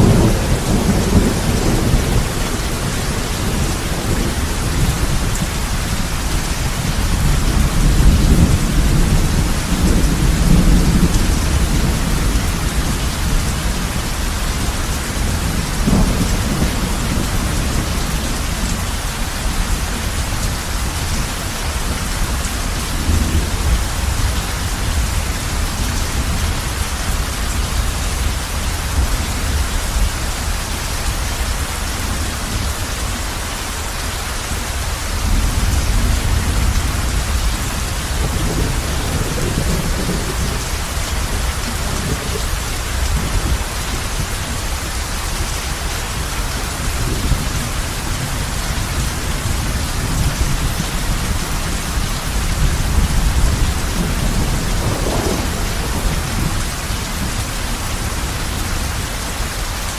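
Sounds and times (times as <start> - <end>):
low thunder rumbling: 0.0 - 59.1
heavy rain on a roof: 0.0 - 59.9.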